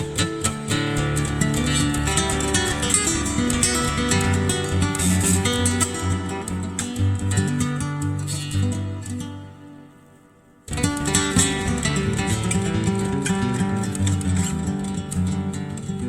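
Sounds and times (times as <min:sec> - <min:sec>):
flamenco acoustic guitar: 0:00.0 - 0:16.0.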